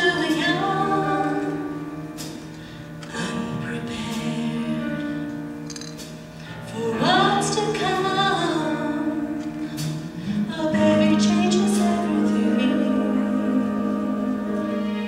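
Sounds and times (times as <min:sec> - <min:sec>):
singing voice: 0:00.0 - 0:02.1, 0:03.0 - 0:05.5, 0:06.6 - 0:15.0
orchestra holding chords: 0:00.0 - 0:15.0.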